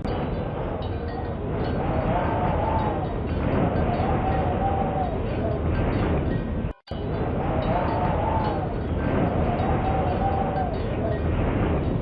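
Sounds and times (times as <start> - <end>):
faint wind whistle: 0.0 - 12.0
wind blowing: 0.0 - 12.0.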